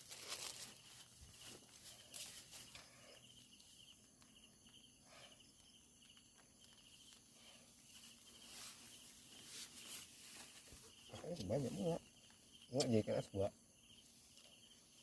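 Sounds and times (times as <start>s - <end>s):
faint night-time hiss: 0.0s - 15.0s
insect chirping: 0.0s - 15.0s.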